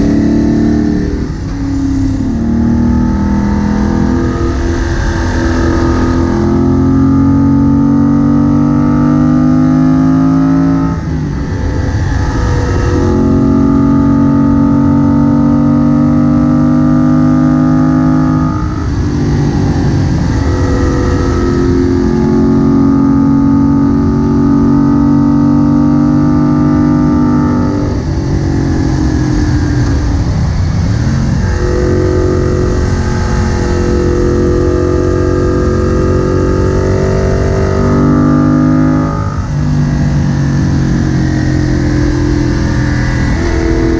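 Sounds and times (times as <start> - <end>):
motorcycle engine pulling under throttle: 0.0 - 43.9.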